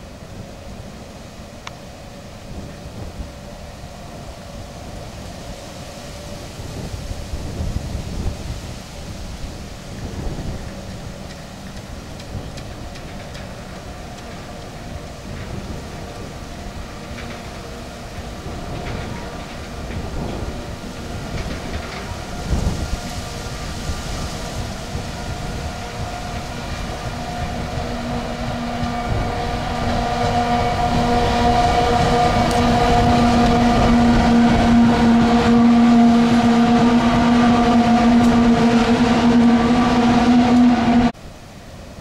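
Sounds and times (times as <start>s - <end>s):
locomotive engine drone: 0.0s - 42.0s.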